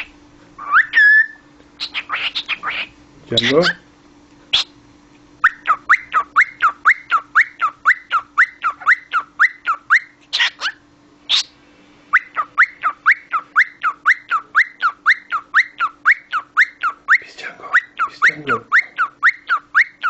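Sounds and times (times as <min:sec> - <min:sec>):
cockatiel chirping: 0:00.0 - 0:03.8, 0:05.4 - 0:11.5, 0:12.1 - 0:20.0
harsh bird calls: 0:00.0 - 0:03.9, 0:04.5 - 0:04.8, 0:05.4 - 0:20.0.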